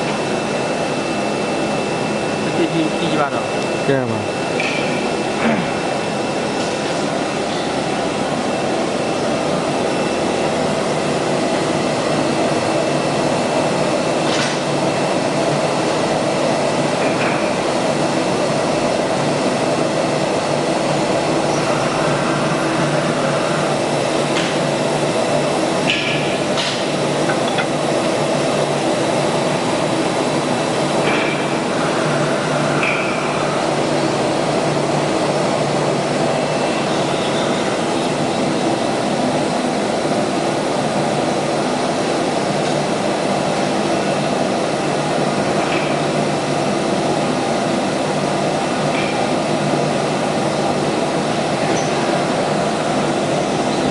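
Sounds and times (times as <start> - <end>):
cnc router running: 0.0 - 53.9.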